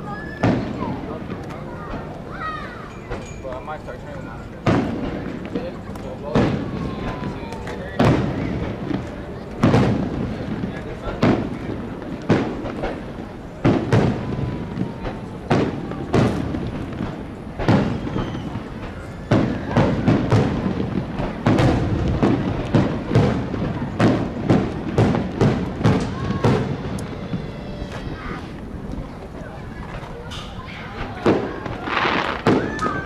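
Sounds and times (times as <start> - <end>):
fireworks booming: 0.0 - 33.0.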